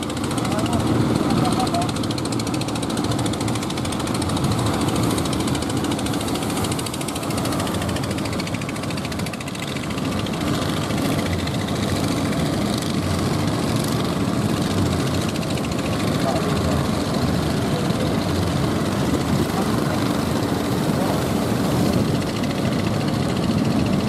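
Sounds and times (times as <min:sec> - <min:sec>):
boat engines knocking: 0:00.0 - 0:24.0
waves washing: 0:00.0 - 0:24.0.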